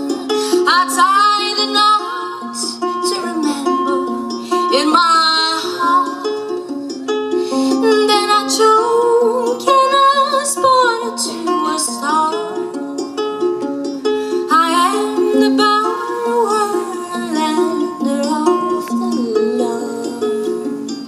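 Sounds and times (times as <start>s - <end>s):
woman singing: 0.0s - 13.2s, 14.3s - 21.0s
ukulele plucking: 0.0s - 21.0s.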